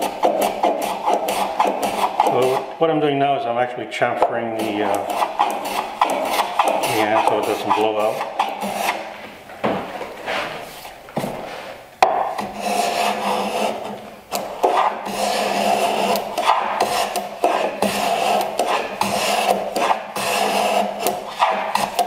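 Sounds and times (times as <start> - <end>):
hand tool rasping on wood: 0.0 - 2.7, 4.1 - 9.2, 12.0 - 22.0.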